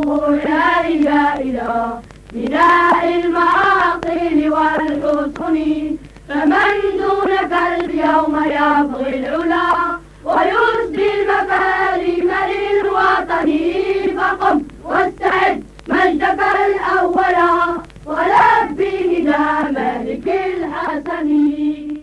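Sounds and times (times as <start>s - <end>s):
children's choir singing: 0.0s - 22.0s.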